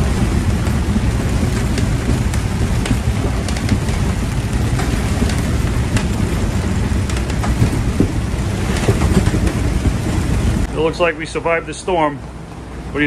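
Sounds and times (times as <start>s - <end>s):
boat engines: 0.0s - 13.0s
rain ticking on vinyl: 0.0s - 13.0s
wind rumble: 0.0s - 13.0s.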